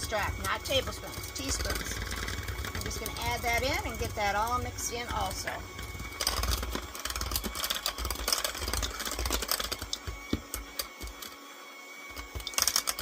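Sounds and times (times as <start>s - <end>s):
beaters clattering against bowl: 0.0s - 11.3s
electric hand mixer whining: 0.0s - 13.0s.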